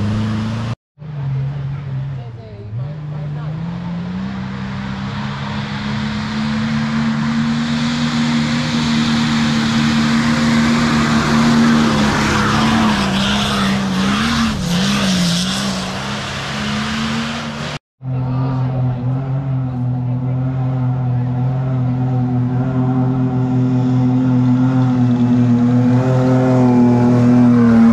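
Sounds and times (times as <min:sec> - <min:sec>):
engine running at high revs: 0:00.0 - 0:27.9.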